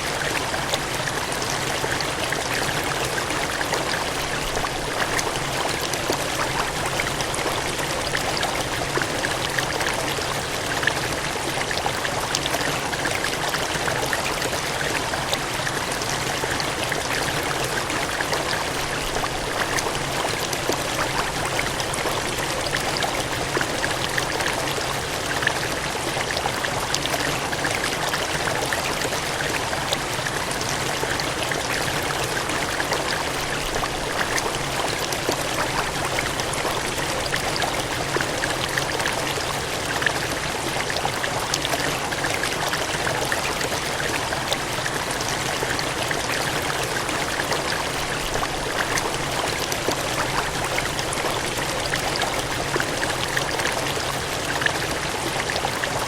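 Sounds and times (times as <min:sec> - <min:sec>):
water gushing and splashing: 0:00.0 - 0:56.0.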